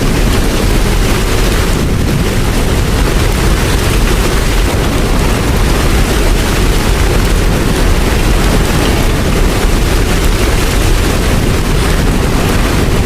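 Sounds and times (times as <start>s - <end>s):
deep low rumble: 0.0s - 13.0s
heavy rain: 0.0s - 13.0s.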